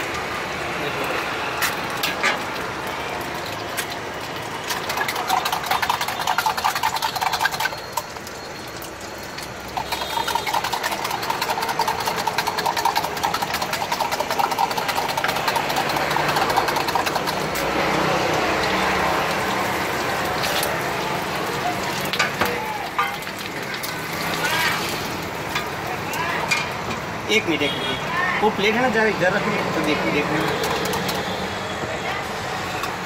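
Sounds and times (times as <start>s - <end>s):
eggs frying in oil: 0.0s - 27.4s, 28.5s - 31.5s.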